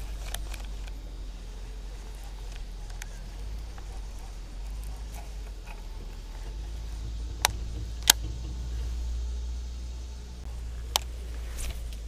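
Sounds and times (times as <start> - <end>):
low wind rumble on microphone: 0.0 - 12.0
sharp clicks: 0.0 - 12.0.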